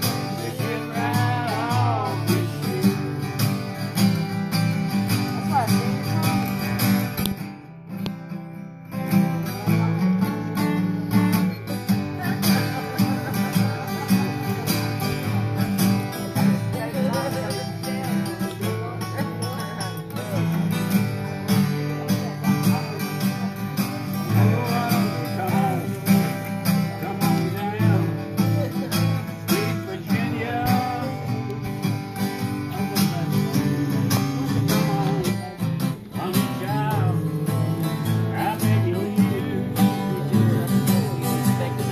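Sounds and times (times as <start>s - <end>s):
acoustic guitars picked and strummed: 0.0s - 41.9s.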